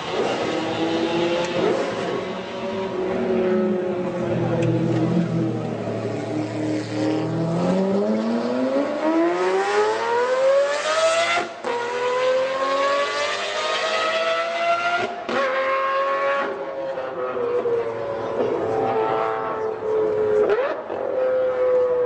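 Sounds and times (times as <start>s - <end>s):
supercar engine accelerating: 0.0s - 22.0s.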